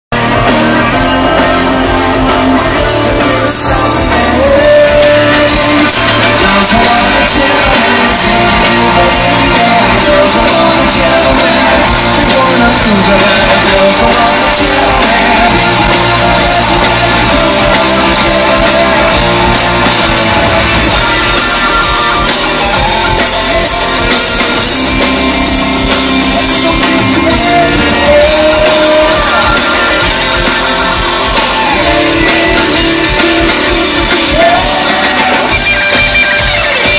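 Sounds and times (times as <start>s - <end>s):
drum kit: 0.1s - 36.9s
electric guitars: 0.1s - 36.9s
person singing: 0.2s - 36.9s.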